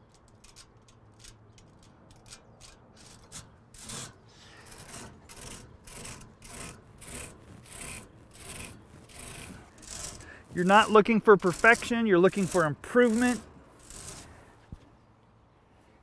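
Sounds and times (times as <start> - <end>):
metal comb scraping aluminium fins: 0.0 - 14.5.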